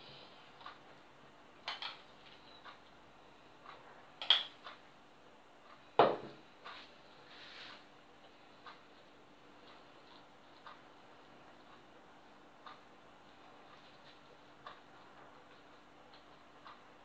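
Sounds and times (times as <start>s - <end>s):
clock ticking: 0.4s - 6.8s, 8.2s - 17.0s.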